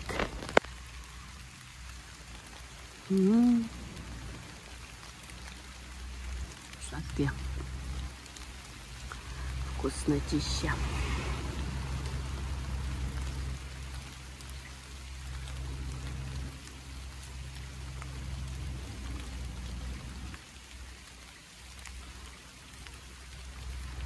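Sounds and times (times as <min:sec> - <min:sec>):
low rumble: 0:00.0 - 0:20.4
raindrops ticking on surfaces: 0:00.0 - 0:24.0
steady rain falling: 0:00.0 - 0:24.0.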